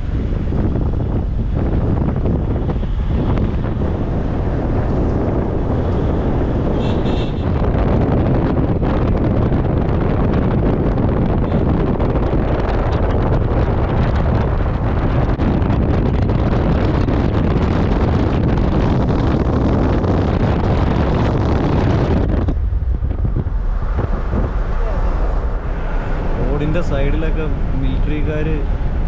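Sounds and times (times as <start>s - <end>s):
vehicle road noise: 0.0s - 29.0s
wind noise on microphone: 0.0s - 29.0s.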